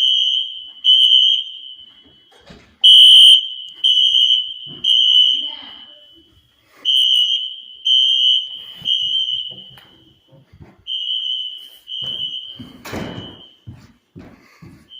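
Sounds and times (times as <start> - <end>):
fire alarm horns blaring: 0.0 - 13.8.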